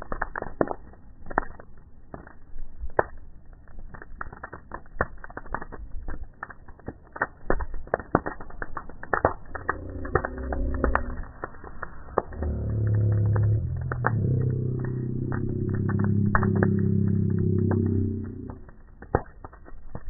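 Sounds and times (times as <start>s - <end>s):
sharp snaps and pops: 0.0s - 20.0s
wood bonfire crackling: 0.0s - 20.0s.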